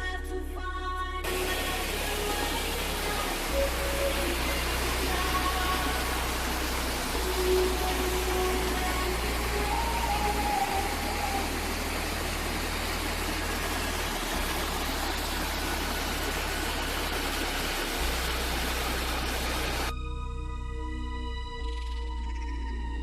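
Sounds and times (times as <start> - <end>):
soft ambient music: 0.0 - 23.0
waterfall rushing: 1.2 - 19.9.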